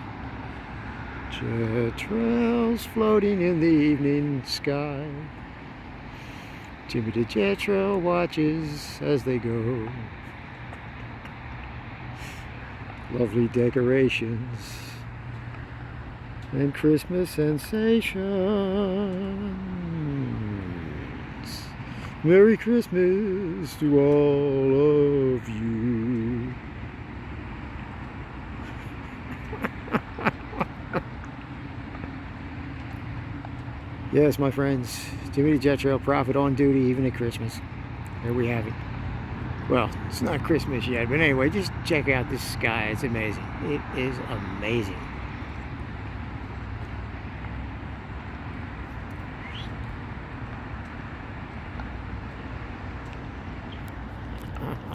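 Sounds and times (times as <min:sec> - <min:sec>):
distant traffic hum: 0:00.0 - 0:54.9
low outdoor rumble: 0:00.0 - 0:54.9.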